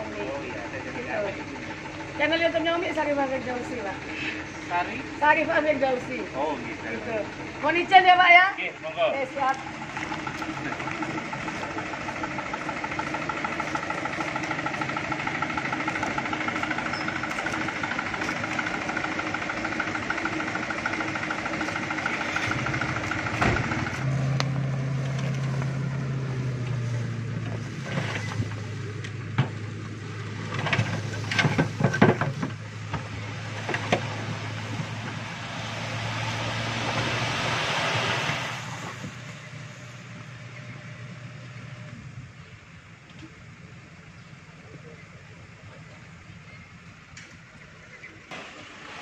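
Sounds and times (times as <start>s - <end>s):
diesel truck engine running: 0.0s - 49.0s.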